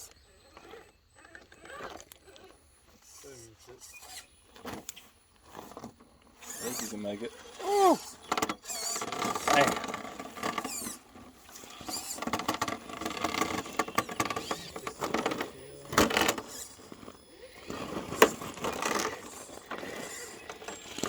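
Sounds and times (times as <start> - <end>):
small electric motors whirring: 0.0 - 21.0
tires scraping on stone: 0.0 - 21.0.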